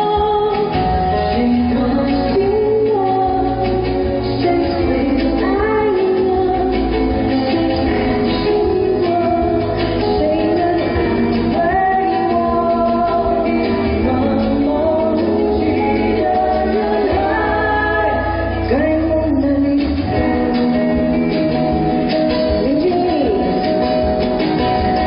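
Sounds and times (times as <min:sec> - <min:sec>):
woman singing pop ballad: 0:00.0 - 0:24.2
band accompaniment: 0:00.0 - 0:25.0.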